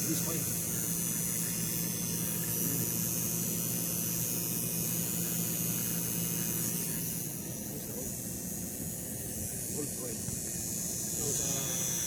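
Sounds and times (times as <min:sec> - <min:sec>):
machinery humming with hiss: 0:00.0 - 0:12.0.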